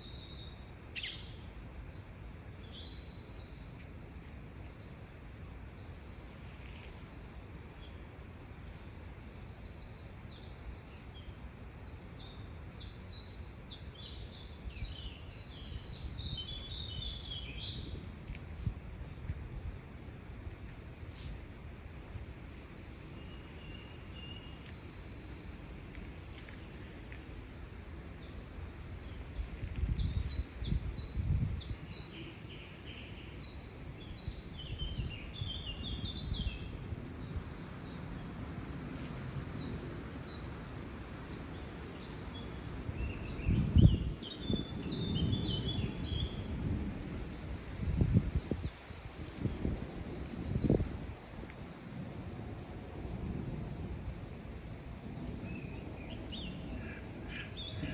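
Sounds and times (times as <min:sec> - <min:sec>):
steady outdoor hiss: 0:00.0 - 0:57.9
low rumbling wind gusts: 0:05.2 - 0:23.0, 0:25.0 - 0:57.9.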